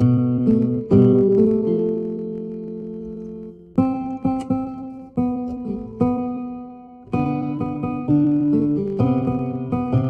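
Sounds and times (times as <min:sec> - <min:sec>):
guitar chords ringing: 0:00.0 - 0:10.0.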